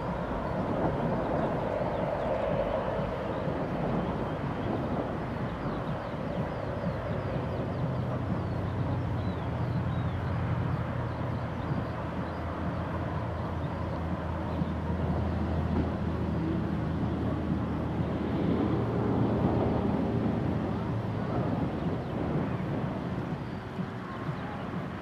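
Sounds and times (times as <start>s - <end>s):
jet engines rumbling at takeoff: 0.0s - 25.0s.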